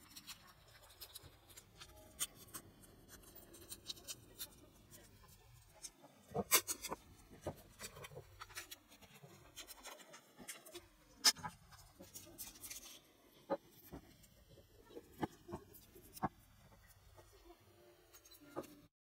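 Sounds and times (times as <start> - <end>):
masking tape crinkling and peeling: 0.0 - 17.3.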